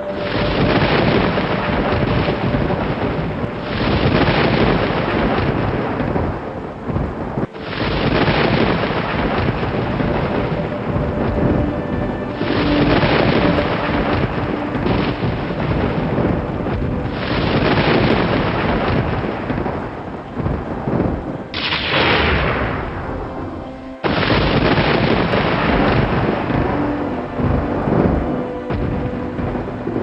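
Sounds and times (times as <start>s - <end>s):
steady rain: 0.0s - 30.0s
thunder rumbling: 0.0s - 30.0s.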